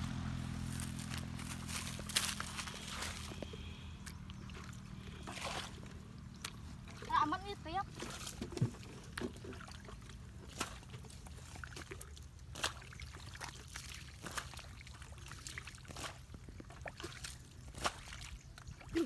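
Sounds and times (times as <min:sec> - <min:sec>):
muddy water sloshing: 0:00.0 - 0:19.0
short splashes and knocks: 0:00.8 - 0:19.0.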